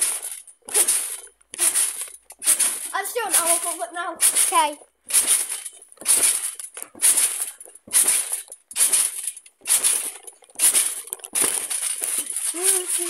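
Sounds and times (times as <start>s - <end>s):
trampoline mat crunching: 0.0s - 13.0s.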